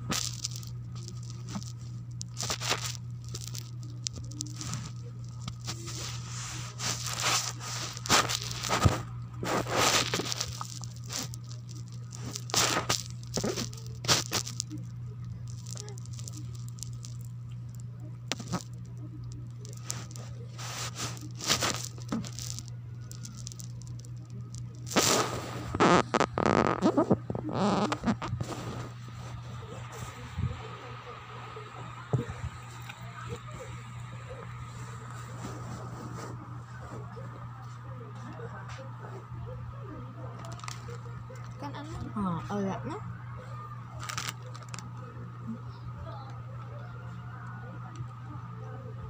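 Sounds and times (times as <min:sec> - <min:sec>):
plastic snack bag crinkling: 0:00.0 - 0:30.4, 0:31.7 - 0:39.0, 0:40.3 - 0:45.0
steady low hum: 0:00.0 - 0:49.0.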